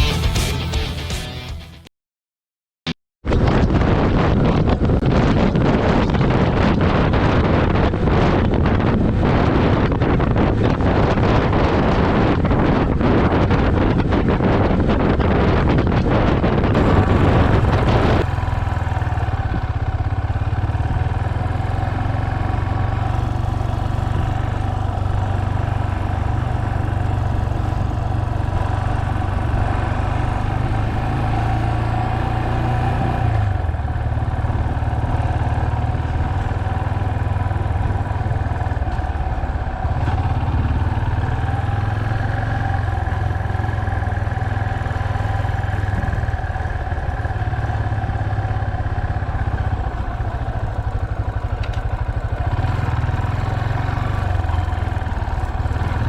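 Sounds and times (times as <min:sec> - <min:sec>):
wind rushing over microphone: 0:03.2 - 0:56.0
motorcycle engine running: 0:03.3 - 0:56.0.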